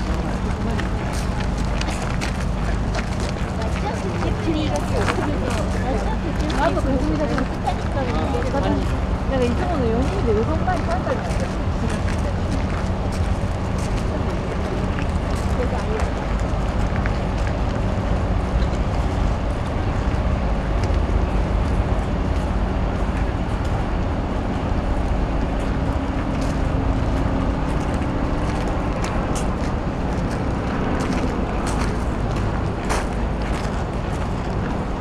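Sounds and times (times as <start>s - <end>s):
low rumble of city traffic: 0.0s - 35.0s.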